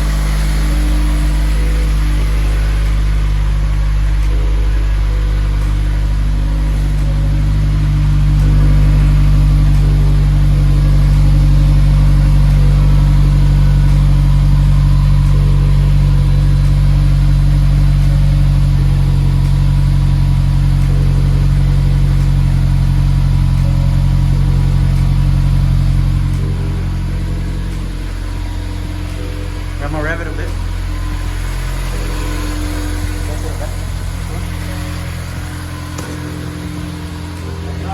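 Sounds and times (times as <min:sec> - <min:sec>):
car engine droning: 0:00.0 - 0:37.9.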